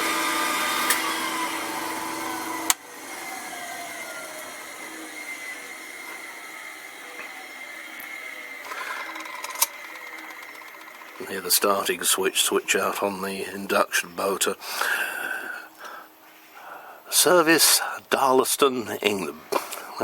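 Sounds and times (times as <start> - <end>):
sanding machine motor whine: 0.0 - 16.0
vacuum dust extraction hum: 0.0 - 20.0.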